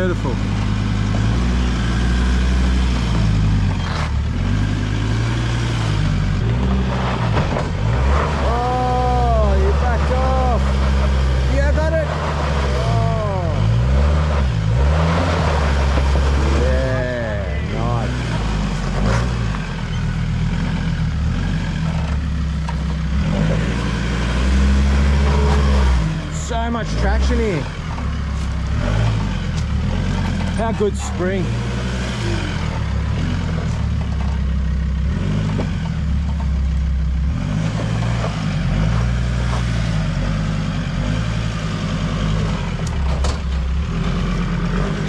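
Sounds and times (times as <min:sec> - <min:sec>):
engine revving under load: 0:00.0 - 0:45.0.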